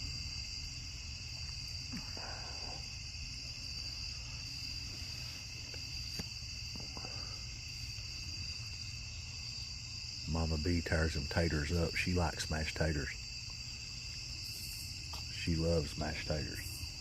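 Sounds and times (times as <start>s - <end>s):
night insects shrilling: 0.0s - 17.0s.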